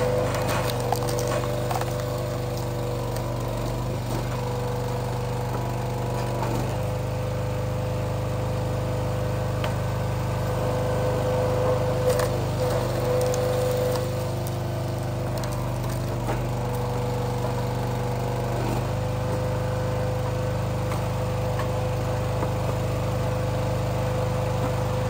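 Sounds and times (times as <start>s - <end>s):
small gasoline engine running: 0.0s - 25.0s.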